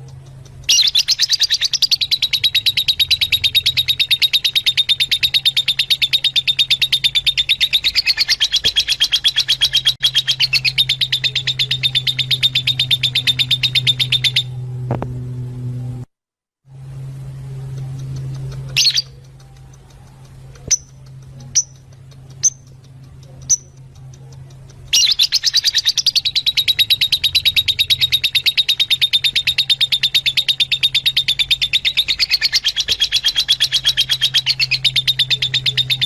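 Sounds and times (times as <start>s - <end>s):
lovebird chirping: 0.1s - 14.6s, 17.9s - 36.0s.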